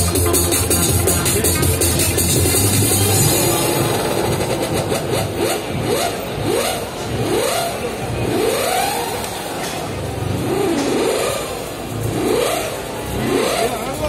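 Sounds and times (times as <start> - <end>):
engine revving: 0.0 - 14.0
steady background din: 0.0 - 14.0.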